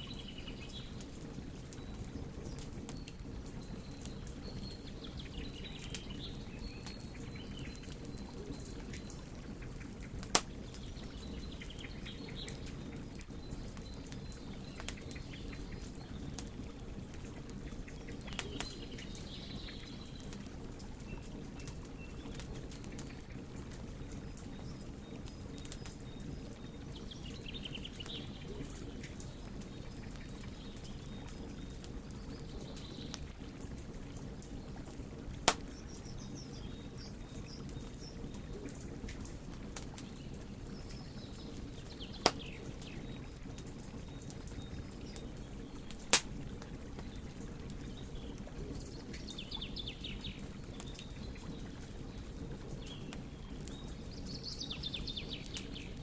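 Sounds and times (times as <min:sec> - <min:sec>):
wood fire burning: 0:00.0 - 0:56.0.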